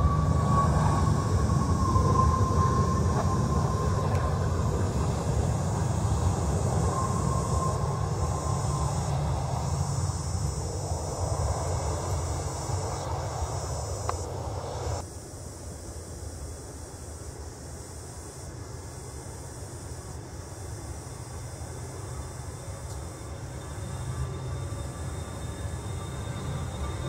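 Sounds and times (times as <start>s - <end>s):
jet engines rumbling and whining: 0.0s - 15.0s, 19.6s - 27.0s.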